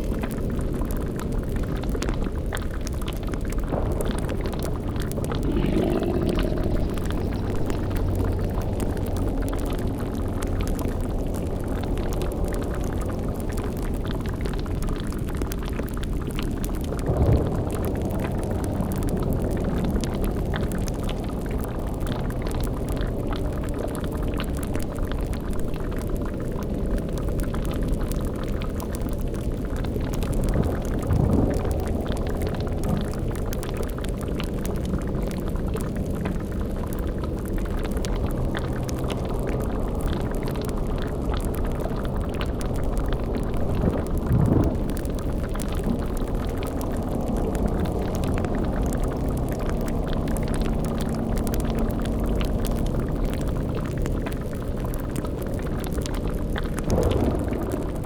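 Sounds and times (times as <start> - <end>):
deep rumble: 0.0 - 58.0
low bubbling: 0.0 - 58.0.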